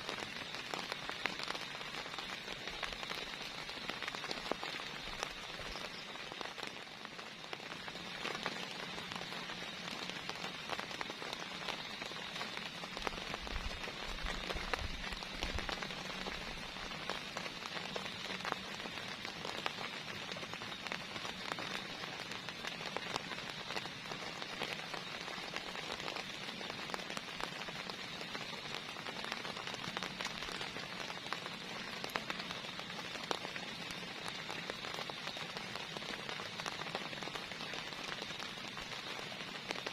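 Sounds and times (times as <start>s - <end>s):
heavy rain falling: 0.0s - 39.9s
raindrops ticking on a surface: 0.0s - 39.9s.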